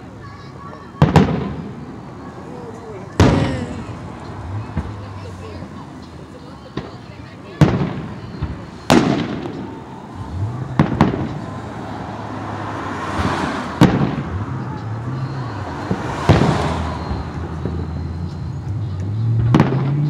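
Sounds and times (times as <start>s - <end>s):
firework crackling: 0.3s - 18.1s
firework bangs: 0.7s - 18.0s, 19.4s - 20.0s.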